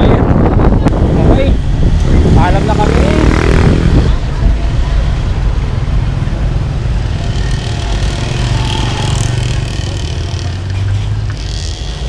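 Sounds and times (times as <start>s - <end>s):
low rumble of vehicle engines: 0.0s - 12.0s.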